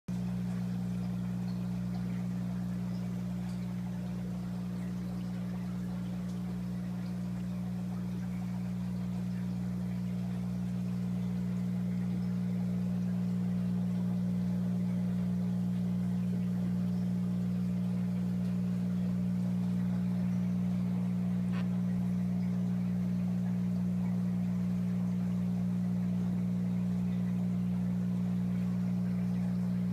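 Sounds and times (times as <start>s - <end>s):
aquarium pump humming: 0.1s - 29.9s.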